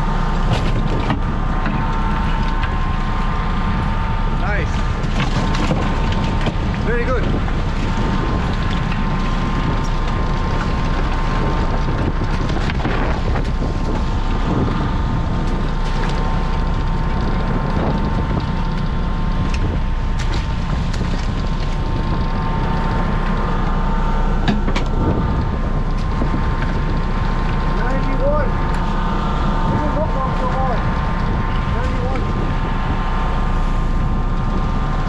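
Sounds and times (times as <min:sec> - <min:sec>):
boat engine and hydraulics whining: 0:00.0 - 0:35.0
wind buffeting the microphone: 0:00.0 - 0:35.0.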